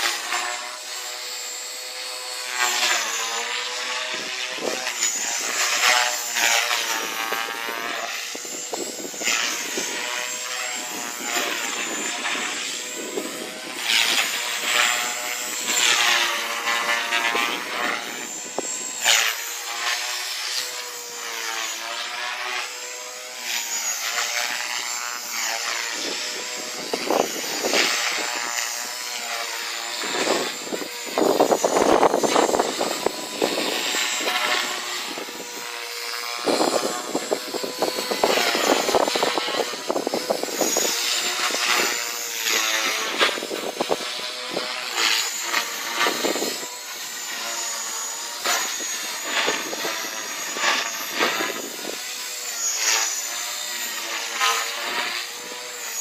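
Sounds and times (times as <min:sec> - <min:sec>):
small propeller engine running: 0:00.0 - 0:56.0.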